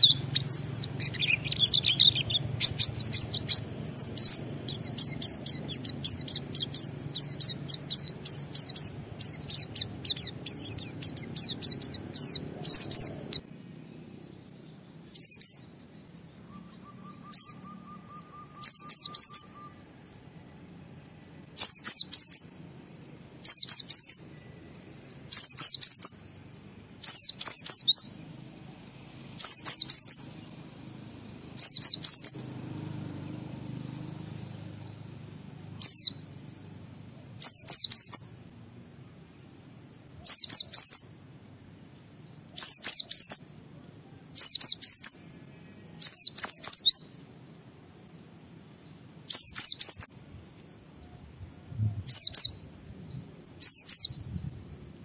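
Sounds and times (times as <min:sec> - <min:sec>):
bird singing high chirps: 0:00.0 - 0:38.7, 0:39.4 - 0:41.3, 0:41.9 - 0:55.0.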